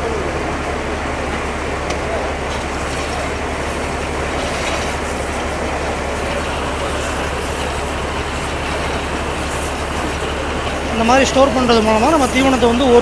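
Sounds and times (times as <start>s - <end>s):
baling machine running: 0.0s - 13.0s.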